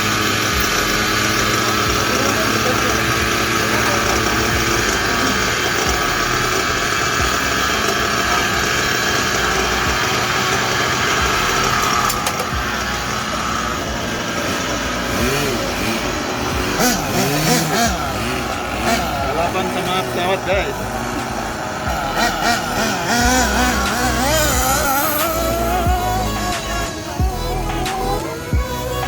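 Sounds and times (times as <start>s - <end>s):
nitro engine idling and revving: 0.0s - 29.0s.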